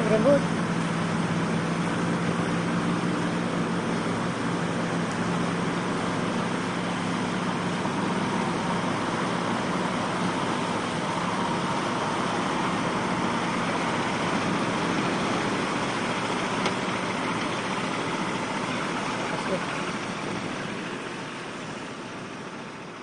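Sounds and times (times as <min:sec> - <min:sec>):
heavy truck engine running: 0:00.0 - 0:23.0
wind: 0:00.0 - 0:23.0.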